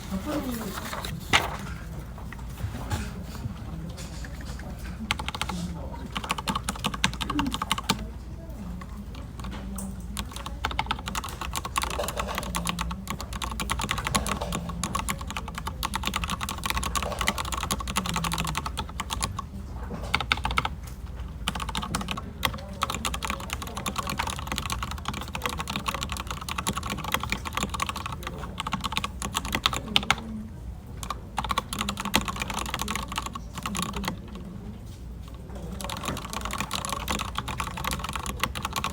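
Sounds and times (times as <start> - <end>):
fast typing on a keyboard: 0.1 - 38.9.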